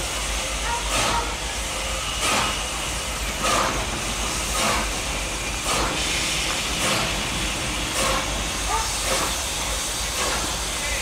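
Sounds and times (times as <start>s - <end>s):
steady hiss of steam: 0.0s - 11.0s
steam locomotive exhaust chuffing: 0.0s - 11.0s.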